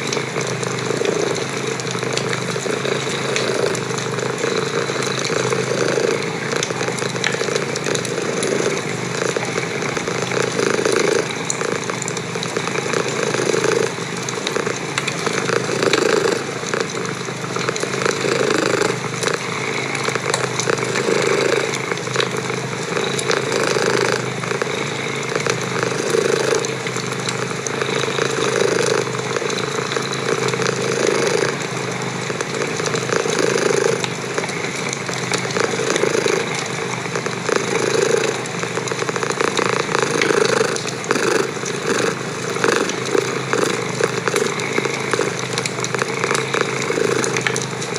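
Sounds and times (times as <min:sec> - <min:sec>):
cat purring: 0:00.0 - 0:47.9
wood fire crackling: 0:00.0 - 0:47.9.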